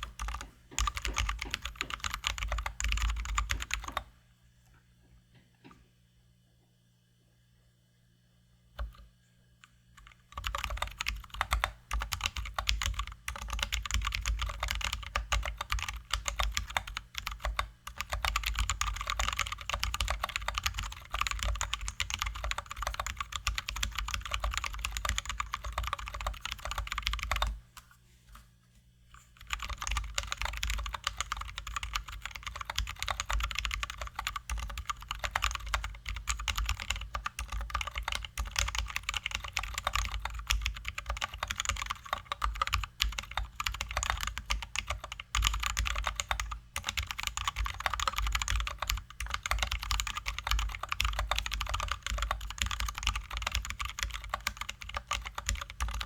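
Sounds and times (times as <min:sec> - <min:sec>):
mechanical keyboard typing: 0:00.0 - 0:04.0, 0:10.0 - 0:27.6, 0:29.4 - 0:56.0.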